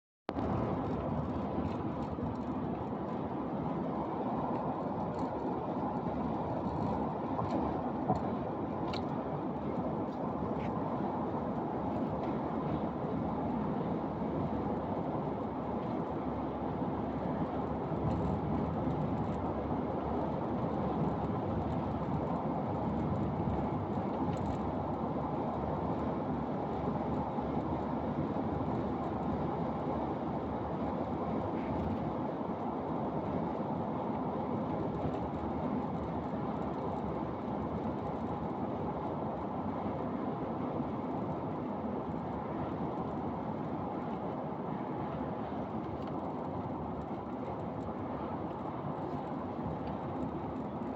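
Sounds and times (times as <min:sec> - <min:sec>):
moving vehicle rumble: 0:00.3 - 0:50.9
road and tyre noise: 0:00.3 - 0:50.9.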